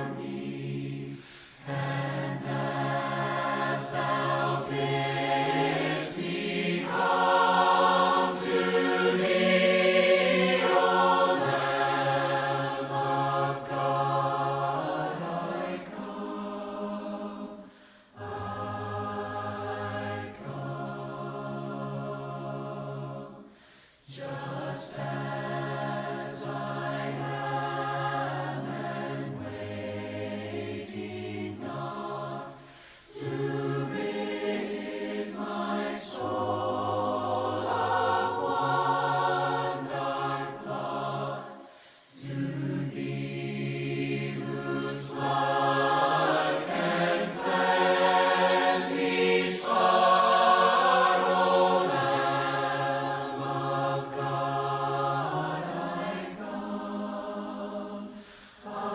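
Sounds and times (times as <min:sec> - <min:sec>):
group singing a cappella hymn: 0:00.0 - 0:58.9.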